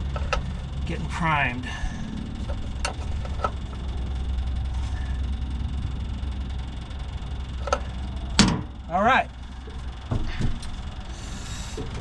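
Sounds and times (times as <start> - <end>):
fuel pump humming: 0.0 - 12.0.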